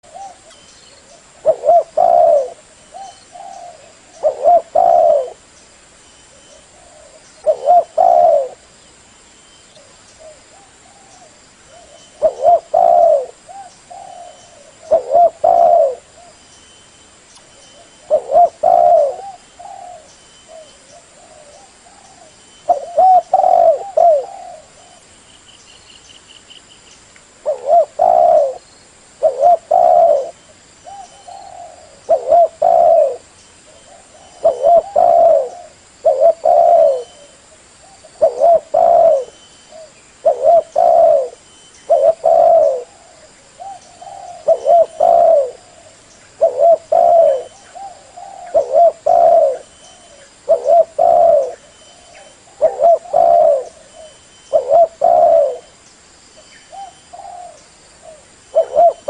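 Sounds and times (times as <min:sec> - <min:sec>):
dove cooing: 0:00.0 - 0:05.4, 0:06.3 - 0:08.7, 0:10.2 - 0:16.4, 0:17.8 - 0:25.1, 0:27.4 - 0:28.6, 0:29.2 - 0:55.8, 0:56.6 - 0:59.0.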